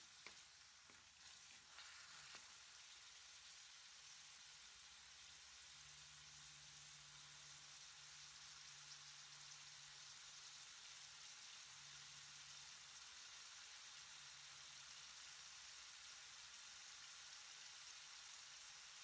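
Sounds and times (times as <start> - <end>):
vegetables sizzling in butter: 0.0 - 19.0.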